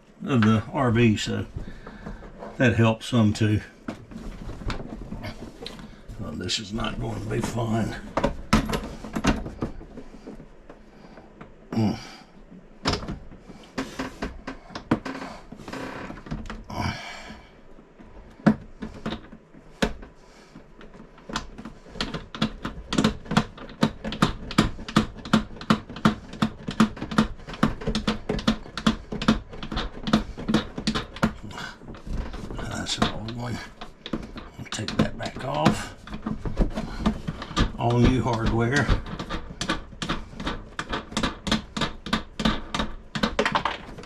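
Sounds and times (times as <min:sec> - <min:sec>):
handling clicks and rustling: 0:00.1 - 0:11.6, 0:17.3 - 0:44.0.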